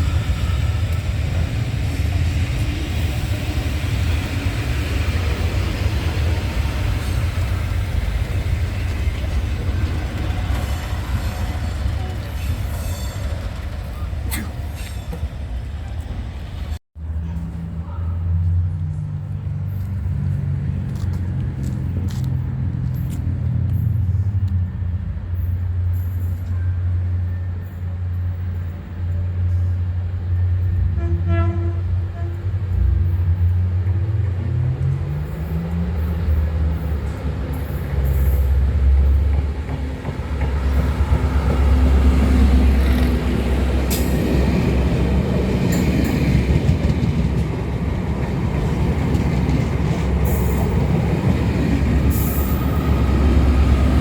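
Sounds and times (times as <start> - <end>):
train low drone: 0.0 - 54.0
train rumbling through station: 0.0 - 54.0.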